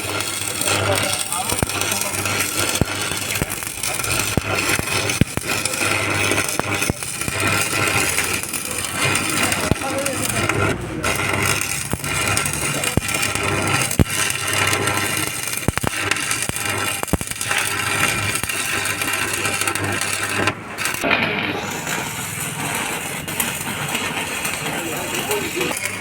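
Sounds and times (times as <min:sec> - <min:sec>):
arc welding crackling hiss: 0:00.0 - 0:26.0
sharp clicks: 0:00.1 - 0:21.1.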